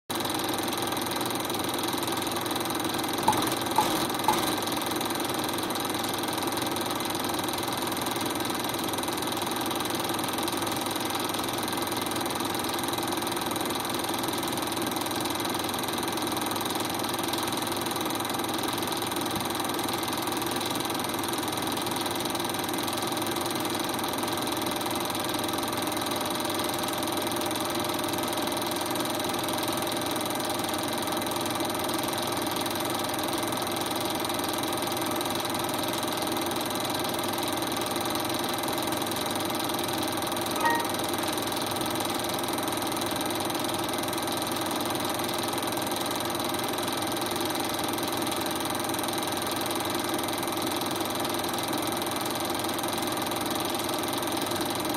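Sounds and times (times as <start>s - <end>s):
film projector whirring: 0.1s - 54.9s.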